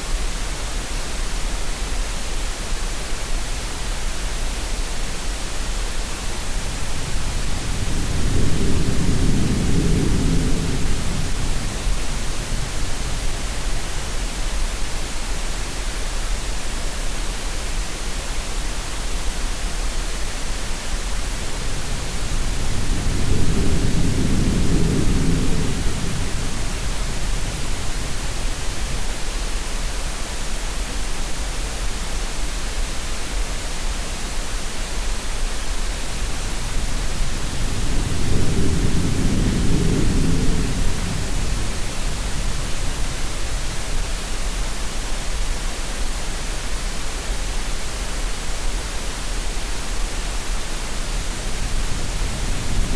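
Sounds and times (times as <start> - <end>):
green noise hiss: 0.0 - 52.9.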